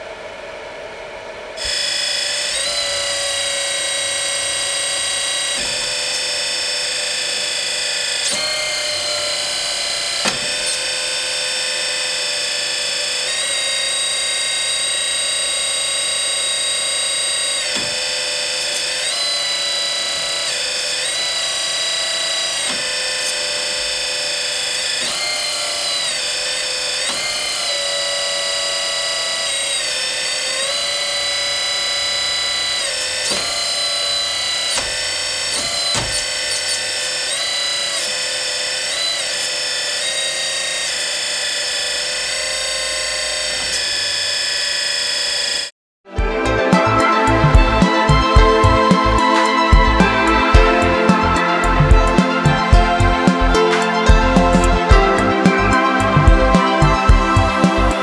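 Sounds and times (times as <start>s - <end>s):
hydraulic pump whining: 0.0s - 58.0s.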